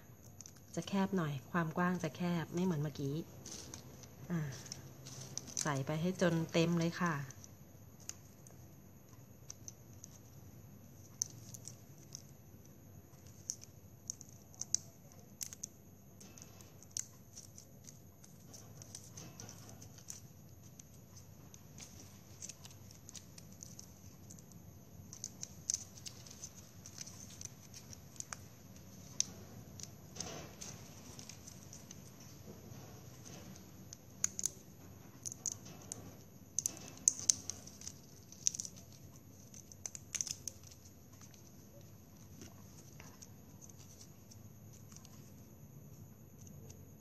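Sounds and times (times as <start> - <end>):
plastic straws clicking and crinkling: 0.0 - 1.0, 1.9 - 47.0.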